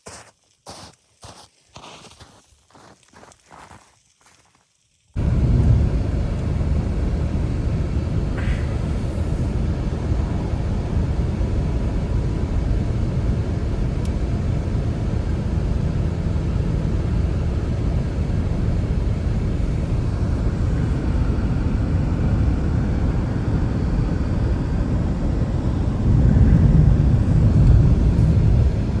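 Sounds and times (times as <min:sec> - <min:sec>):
strong blizzard wind: 0:05.2 - 0:29.0.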